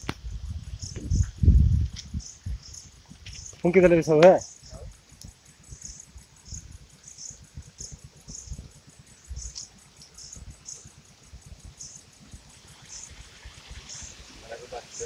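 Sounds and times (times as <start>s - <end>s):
low rumble on microphone: 0.0s - 14.9s
insects chirping: 0.0s - 15.0s.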